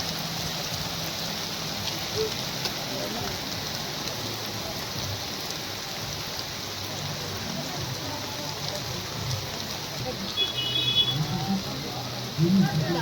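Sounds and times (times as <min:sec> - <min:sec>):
rain falling: 0:00.0 - 0:13.0
rain drop ticks: 0:00.4 - 0:13.0.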